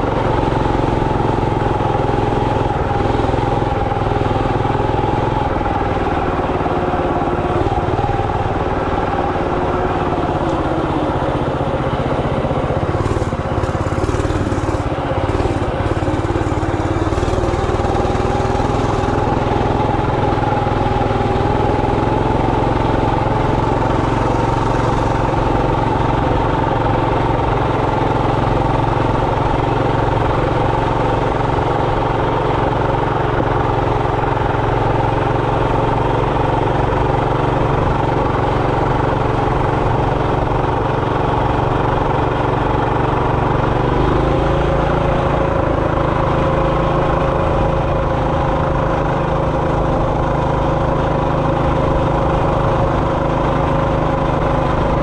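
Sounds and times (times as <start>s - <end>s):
minibike engine running: 0.0s - 55.0s.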